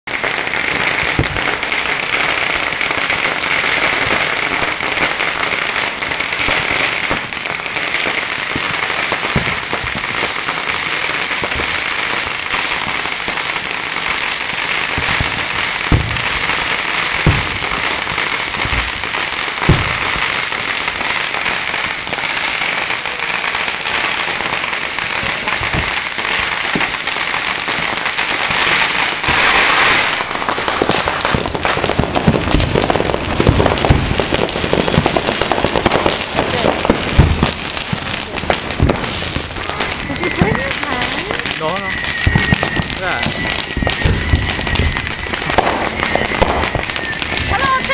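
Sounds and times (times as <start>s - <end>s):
firecrackers crackling: 0.0s - 47.9s
firework shells booming: 0.1s - 47.9s.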